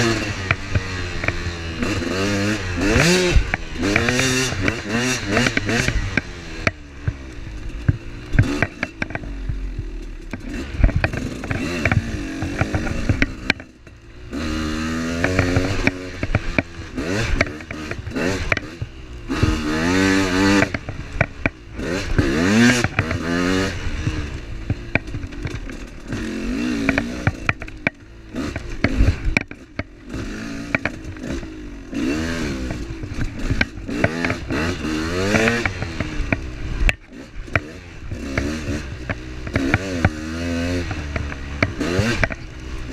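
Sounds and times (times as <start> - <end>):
vehicle rattling and knocking: 0.0 - 31.5, 32.1 - 42.9
off-road vehicle engine revving: 0.0 - 42.9.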